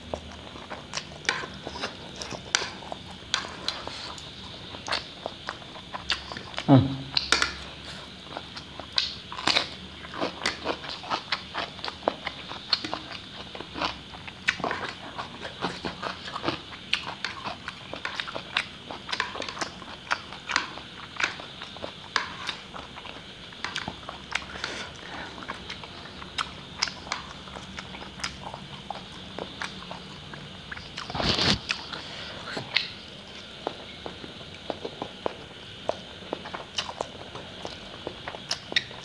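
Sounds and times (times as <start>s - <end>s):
person chewing noodles: 0.0s - 39.0s.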